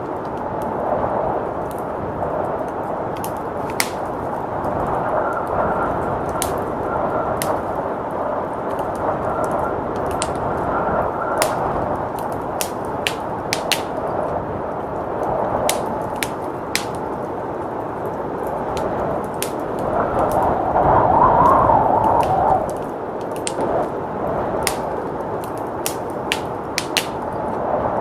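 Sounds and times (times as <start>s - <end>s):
blizzard wind rushing: 0.0s - 28.0s
wood fire crackling: 0.0s - 28.0s.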